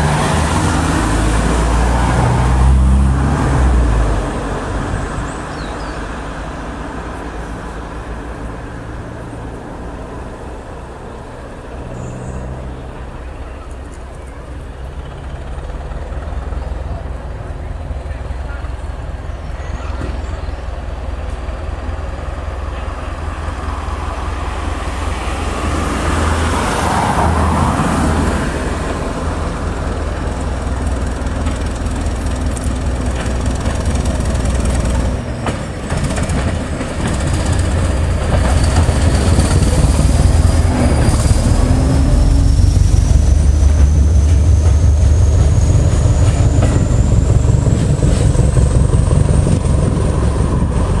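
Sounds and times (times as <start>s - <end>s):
diesel train engine throbbing: 0.0s - 51.0s
wheel-on-rail noise: 0.0s - 51.0s.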